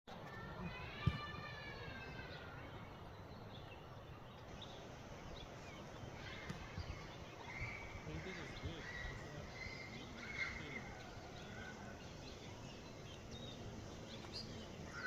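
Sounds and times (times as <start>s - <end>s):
descending bird call: 0.2s - 15.0s
steady background hiss: 0.2s - 15.0s
faint bird chirps: 0.3s - 15.0s.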